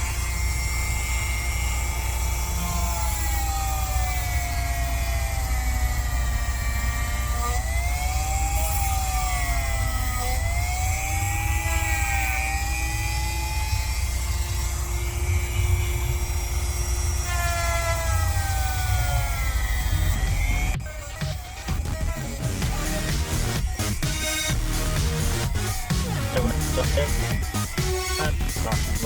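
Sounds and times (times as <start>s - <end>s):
rotary tool grinding nails: 0.0s - 29.0s.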